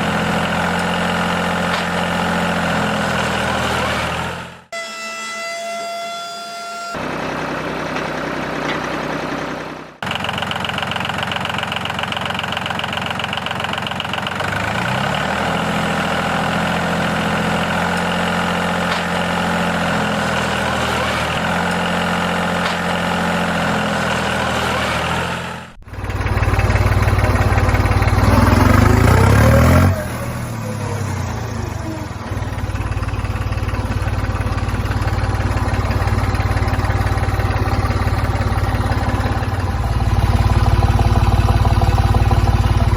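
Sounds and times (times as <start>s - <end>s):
engine running steadily: 0.0s - 4.7s, 7.0s - 42.9s
deep loud engine hum: 0.0s - 5.3s, 6.8s - 42.9s.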